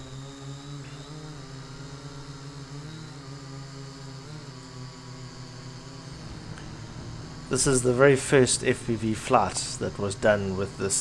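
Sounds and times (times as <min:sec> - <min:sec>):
quadcopter propellers buzzing: 0:00.0 - 0:11.0.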